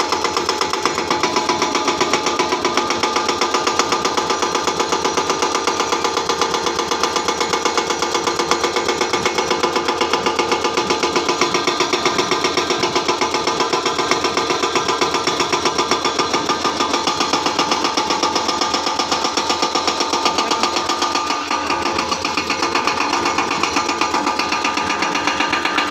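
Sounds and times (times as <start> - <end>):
hydraulic breaker hammering stone: 0.0 - 25.9
machine engine running: 0.0 - 25.9.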